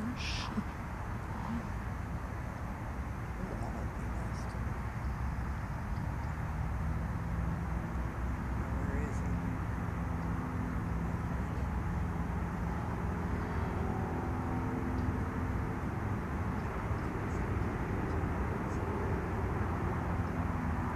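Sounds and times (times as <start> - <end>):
distant engine drone: 0.0 - 20.9.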